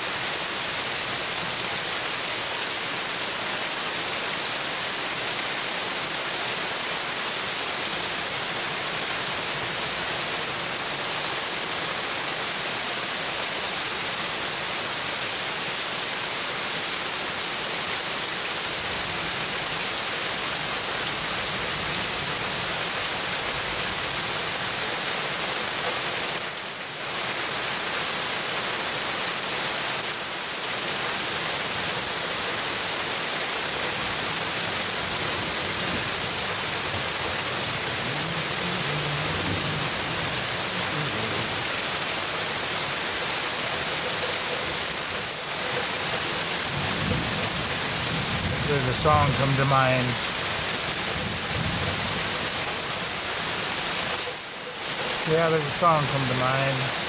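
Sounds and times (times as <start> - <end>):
heavy rain on trees and ground: 0.0 - 57.0.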